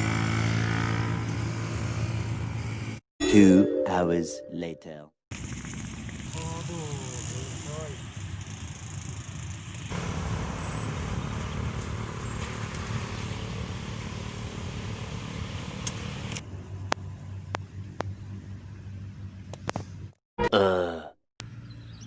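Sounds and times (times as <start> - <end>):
road traffic hum: 0.0 - 3.0, 5.3 - 20.2.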